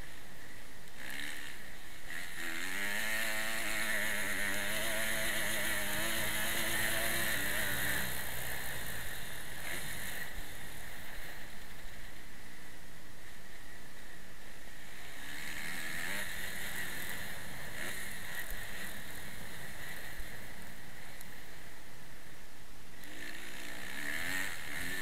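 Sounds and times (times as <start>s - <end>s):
dirt bike engine revving: 0.0s - 21.9s, 23.0s - 25.0s.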